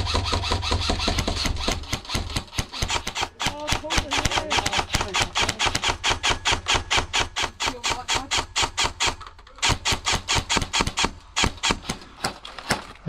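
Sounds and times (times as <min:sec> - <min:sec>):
airsoft rifle rapid shots: 0:00.0 - 0:12.8.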